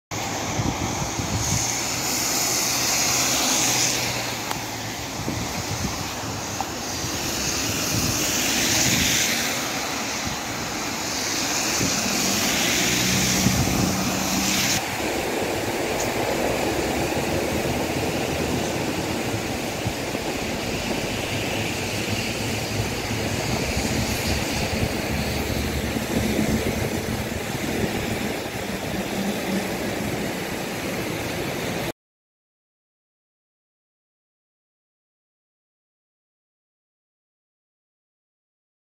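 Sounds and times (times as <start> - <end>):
tyres swishing through water: 0.2 - 31.9
water spray hiss: 0.2 - 31.9.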